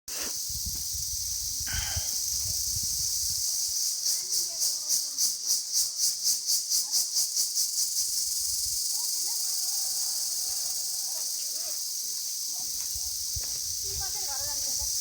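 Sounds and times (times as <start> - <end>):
insects droning: 0.1 - 15.0.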